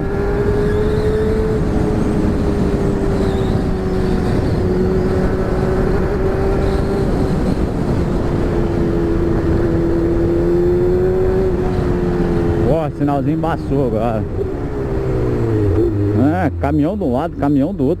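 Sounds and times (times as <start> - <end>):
wind and road noise: 0.0 - 18.0.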